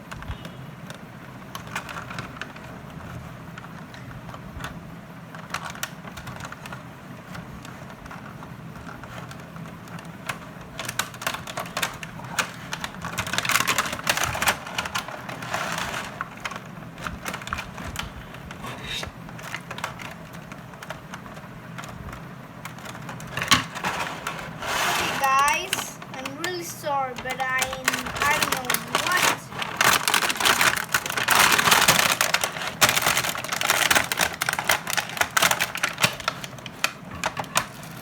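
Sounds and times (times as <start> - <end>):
toy packaging crinkling and clicking: 0.2 - 38.0.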